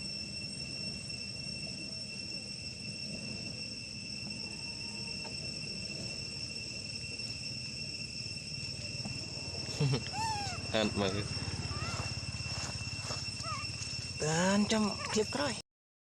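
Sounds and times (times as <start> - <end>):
insects droning: 0.0 - 15.6
low outdoor rumble: 2.4 - 15.6.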